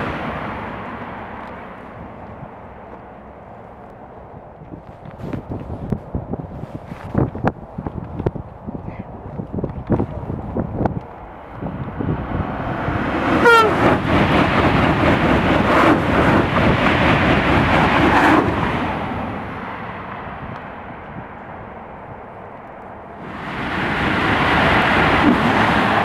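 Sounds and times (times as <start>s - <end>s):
high-speed train passing: 0.0s - 26.0s.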